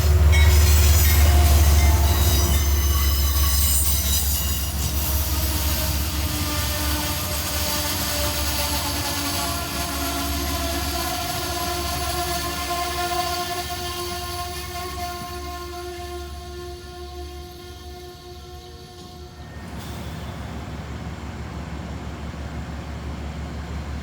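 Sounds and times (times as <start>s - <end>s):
train rumbling: 0.0s - 24.0s
wheels squealing on rails: 0.0s - 24.0s.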